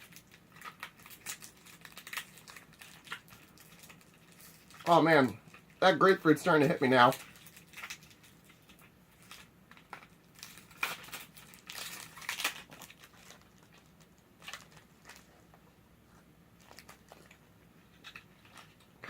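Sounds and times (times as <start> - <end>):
plastic wrapper crinkling: 0.0 - 15.7, 16.6 - 19.0.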